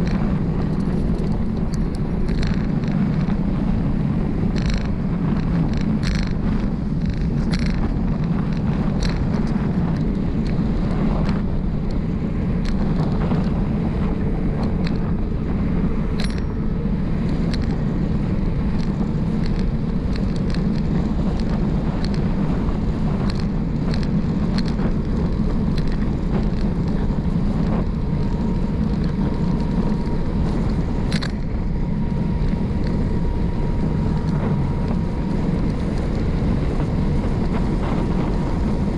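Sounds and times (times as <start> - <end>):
bicycle clicks and rattles: 0.0 - 38.9
tyre noise on road: 0.0 - 38.9
wind rushing over microphone: 0.0 - 38.9.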